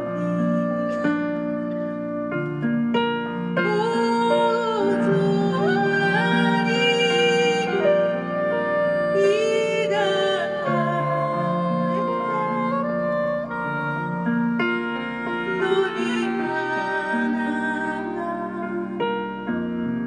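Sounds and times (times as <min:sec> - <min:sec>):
grand piano: 0:00.0 - 0:20.0
woodwind melody with sliding notes: 0:00.0 - 0:20.0.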